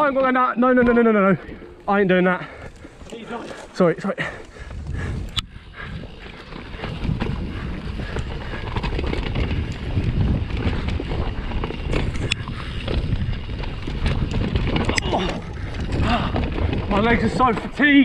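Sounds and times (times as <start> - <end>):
bike clicks and rattles: 0.0 - 18.0
bike rolling over dirt trail: 0.0 - 18.0
wind buffeting microphone: 0.0 - 18.0.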